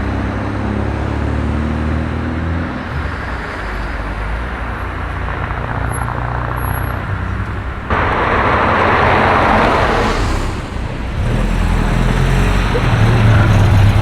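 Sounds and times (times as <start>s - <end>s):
low car engine rumble: 0.0s - 14.0s
car passing close: 0.4s - 14.0s.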